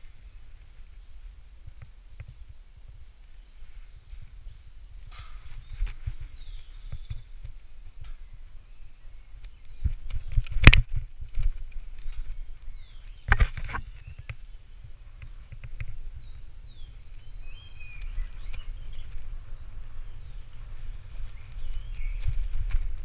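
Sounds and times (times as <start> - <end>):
low rumble of movement: 0.0 - 23.0
wind on microphone: 0.0 - 23.0.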